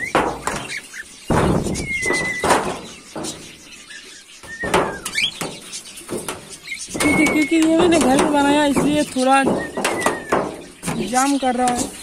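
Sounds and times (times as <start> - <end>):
metal tray scraping and squealing: 0.0 - 12.0.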